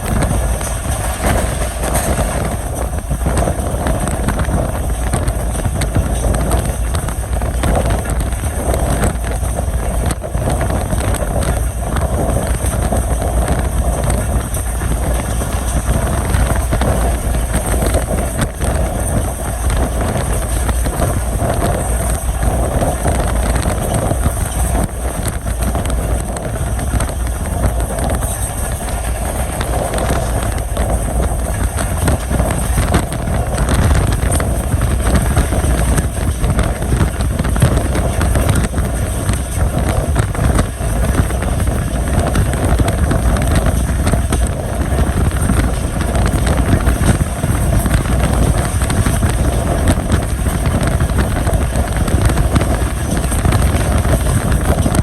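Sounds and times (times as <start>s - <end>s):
faint rail clicks: 0.0s - 55.0s
rushing air: 0.0s - 55.0s
train wheels rumbling on rails: 0.0s - 55.0s.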